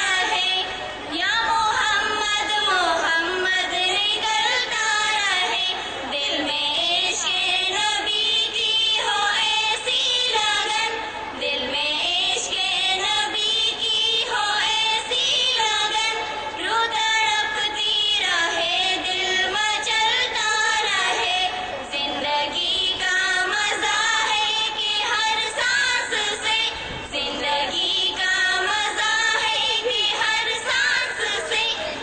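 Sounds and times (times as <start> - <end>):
girls singing into a microphone: 0.0 - 32.0.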